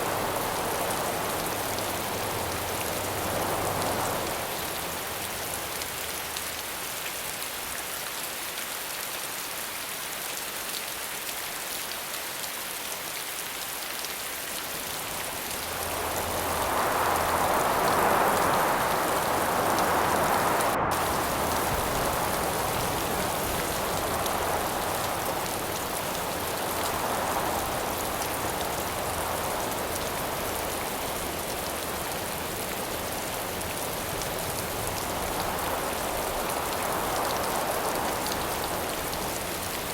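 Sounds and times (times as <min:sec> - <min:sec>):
rain hissing: 0:00.0 - 0:07.7, 0:13.5 - 0:39.9.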